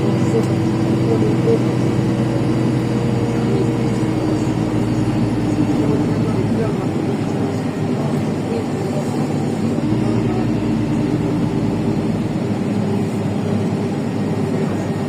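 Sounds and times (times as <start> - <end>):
bus engine and road drone: 0.0 - 15.0.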